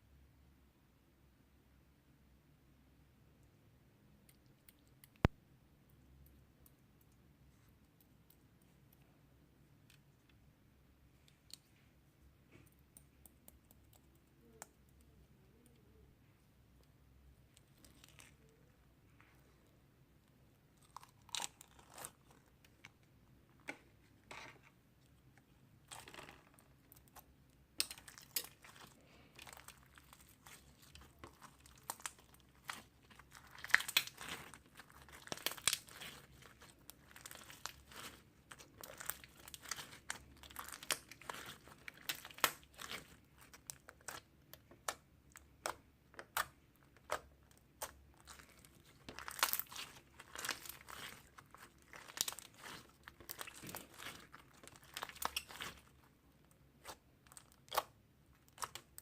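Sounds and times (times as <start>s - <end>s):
crinkling and crackling: 11.1s - 59.0s.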